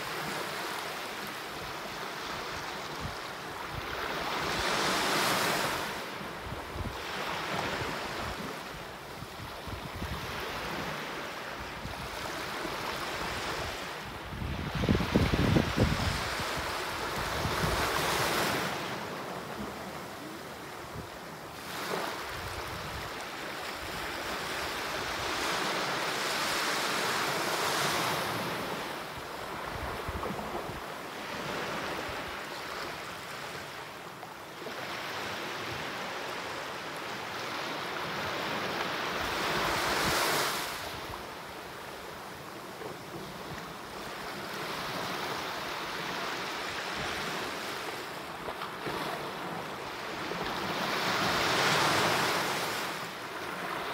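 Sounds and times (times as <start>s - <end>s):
small waves breaking on shore: 0.0s - 53.9s.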